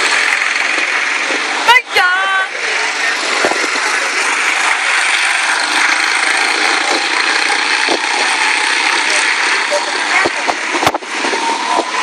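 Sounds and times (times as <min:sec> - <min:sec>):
small race car engines droning: 0:00.0 - 0:12.0.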